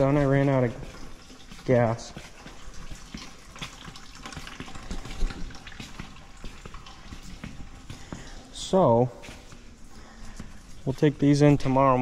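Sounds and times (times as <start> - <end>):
soft taps and rustles: 0.0 - 11.6.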